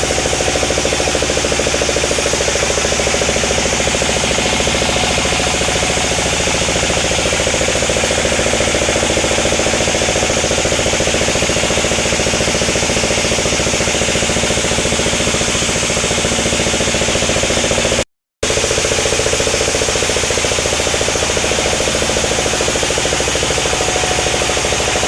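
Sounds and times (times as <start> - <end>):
sawmill machinery droning: 0.0 - 25.0.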